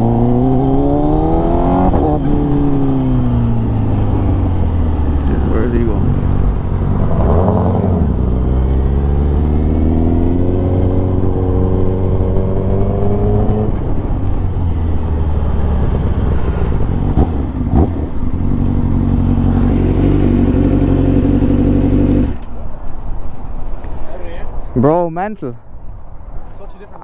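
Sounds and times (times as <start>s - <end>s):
motorcycle engine accelerating: 0.0s - 22.5s.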